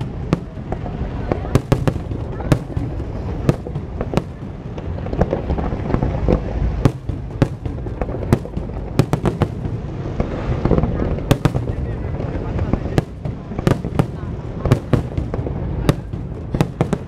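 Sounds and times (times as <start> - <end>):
fireworks bursting: 0.0 - 17.0
low rumble: 0.0 - 17.0.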